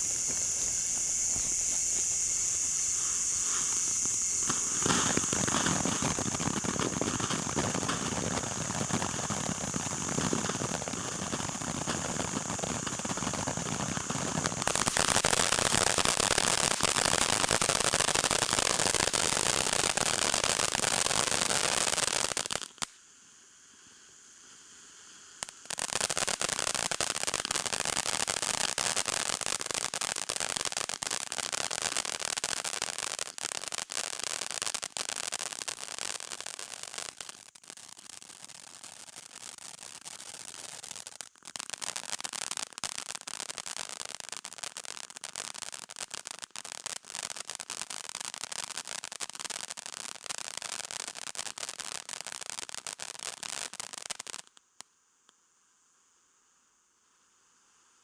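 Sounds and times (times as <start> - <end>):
fountain firework hissing: 0.0 - 54.5
firework crackles: 0.0 - 55.4.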